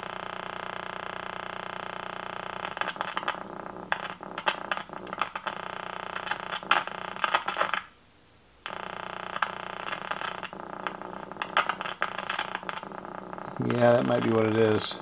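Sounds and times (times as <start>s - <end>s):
radio static with crackles and pops: 0.0s - 8.0s, 8.6s - 15.0s.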